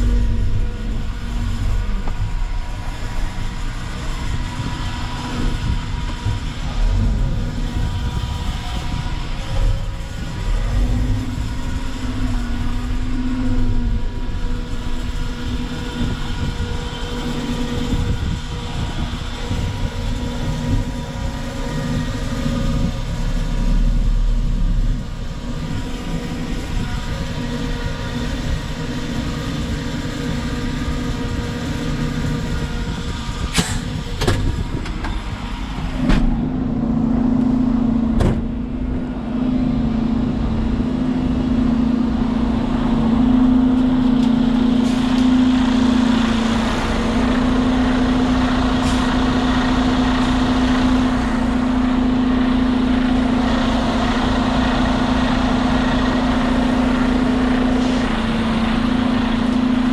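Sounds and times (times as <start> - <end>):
diesel engine running: 0.0 - 59.9
steady drone: 0.0 - 59.9.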